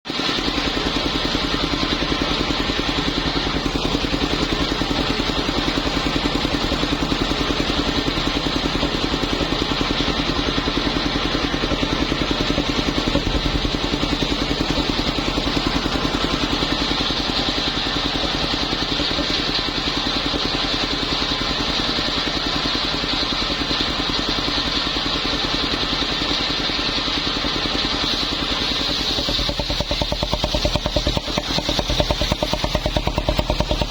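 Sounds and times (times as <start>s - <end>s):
small engine running: 0.1s - 33.9s.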